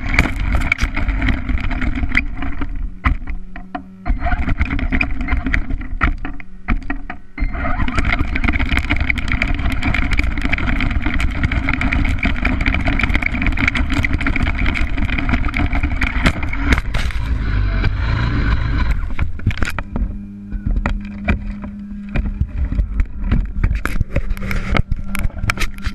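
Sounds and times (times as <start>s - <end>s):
toy truck motor running: 0.0s - 3.3s, 4.0s - 25.9s
chassis rattling knocks: 0.0s - 25.9s
low rumble: 0.0s - 25.9s.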